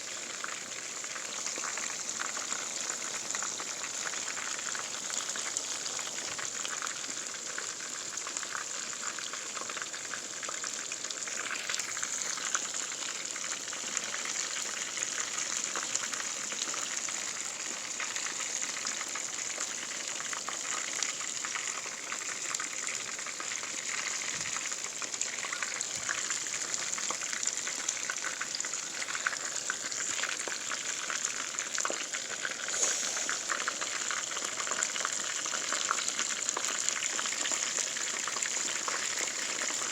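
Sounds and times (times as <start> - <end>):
food deep-frying in oil: 0.0 - 39.9.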